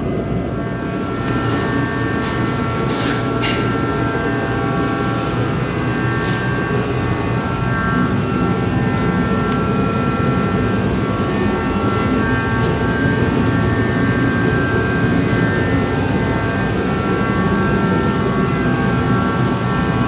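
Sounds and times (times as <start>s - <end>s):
machine rumbling: 0.0s - 20.0s
machine whining tones: 0.0s - 20.0s.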